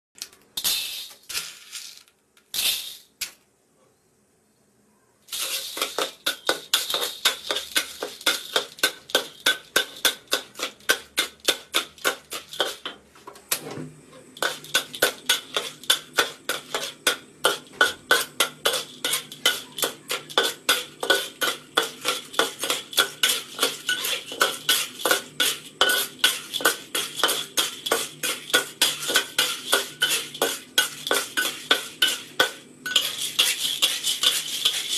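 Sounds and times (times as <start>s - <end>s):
kernels clattering into wok: 0.2s - 3.3s, 5.3s - 13.1s, 14.3s - 34.9s
metal spatula scraping wok: 5.3s - 13.0s, 13.6s - 34.9s.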